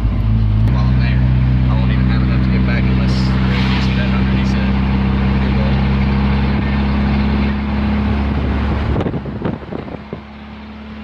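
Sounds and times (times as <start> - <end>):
road and wind noise: 0.0 - 11.0
truck engine drone: 0.0 - 11.0.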